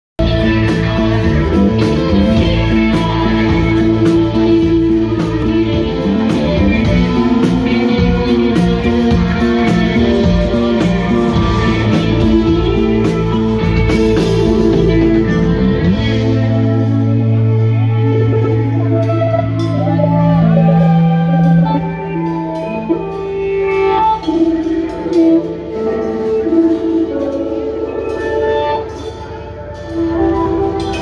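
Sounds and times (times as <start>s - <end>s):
bass line: 0.2s - 27.3s
drums with cymbal beat: 0.2s - 31.0s
electric guitars: 0.2s - 31.0s
keyboards: 0.2s - 31.0s.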